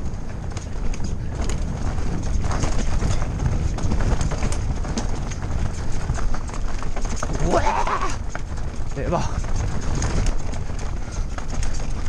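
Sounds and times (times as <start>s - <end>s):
bike rattling over bumps: 0.0s - 12.0s
wind on microphone: 0.0s - 12.0s.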